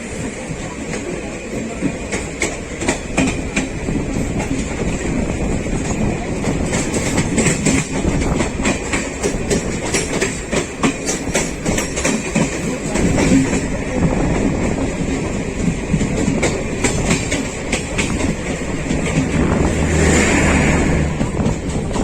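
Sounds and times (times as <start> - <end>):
train rumble: 0.0 - 22.0
train wheels clattering over joints: 0.0 - 22.0.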